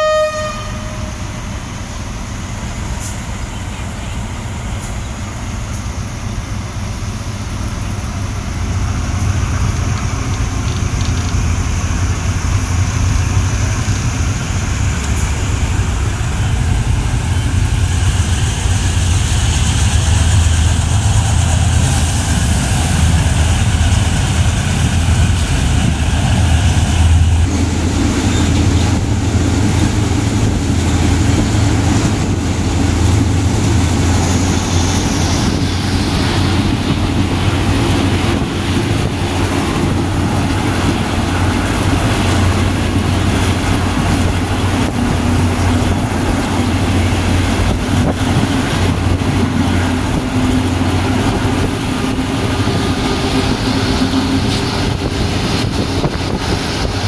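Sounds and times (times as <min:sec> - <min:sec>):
train wheels rumbling on rails: 0:00.0 - 0:57.0
rushing air: 0:04.2 - 0:57.0.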